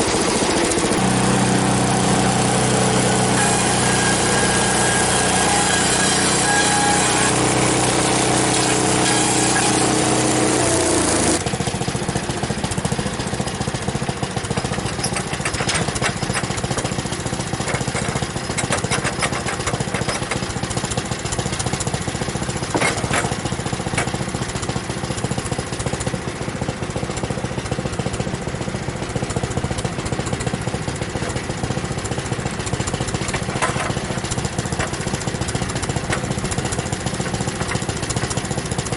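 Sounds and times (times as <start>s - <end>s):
small gasoline engine running: 0.0s - 38.9s.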